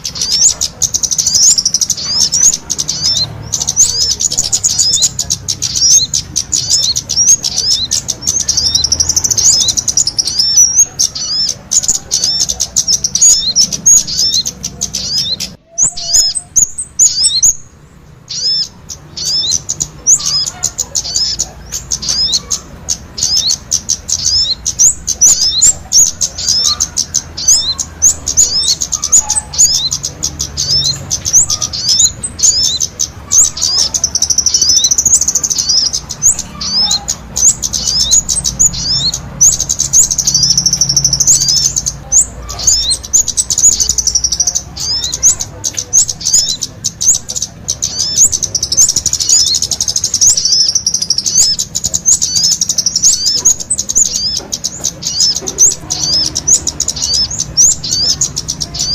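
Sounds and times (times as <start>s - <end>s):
bird trills: 0.0s - 58.9s
songbirds chirping: 0.0s - 58.9s.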